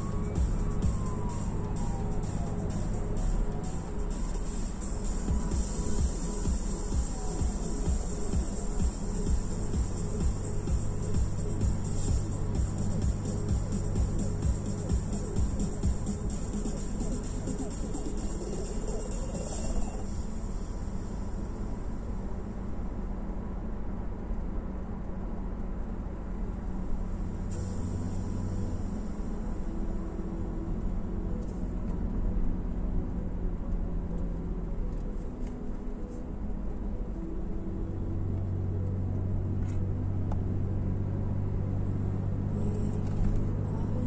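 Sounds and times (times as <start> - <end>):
car engine humming: 0.0 - 44.0
tyre and road noise: 0.0 - 44.0.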